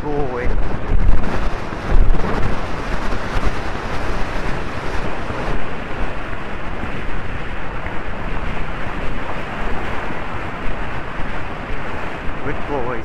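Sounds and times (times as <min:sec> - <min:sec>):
wind buffeting a microphone: 0:00.0 - 0:13.0.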